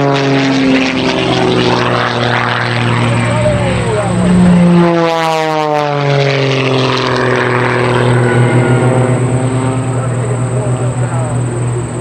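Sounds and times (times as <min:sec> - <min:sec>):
propeller planes droning past: 0:00.0 - 0:12.0.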